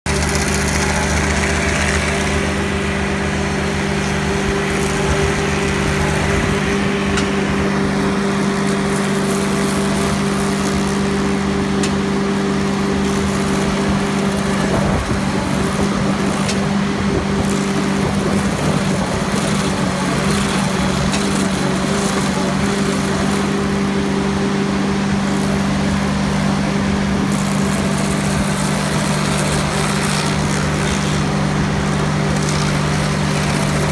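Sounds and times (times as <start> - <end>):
skid steer engine running: 0.0 - 33.9
stump grinder cutting stump: 0.0 - 33.9.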